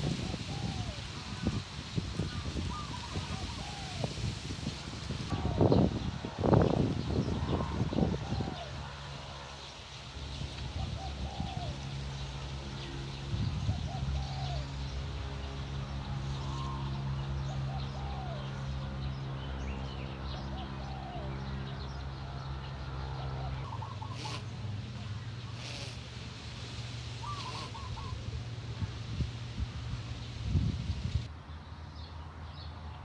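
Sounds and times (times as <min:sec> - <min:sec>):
birds calling: 0:00.0 - 0:31.3
low mechanical hum: 0:00.0 - 0:31.4.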